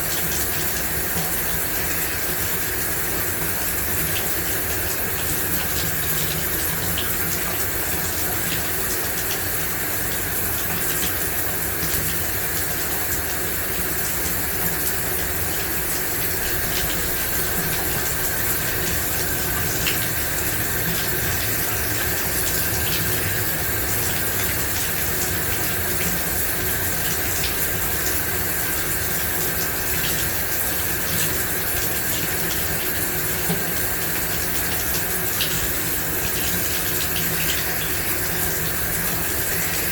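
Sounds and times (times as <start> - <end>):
shower water spraying: 0.0 - 39.9.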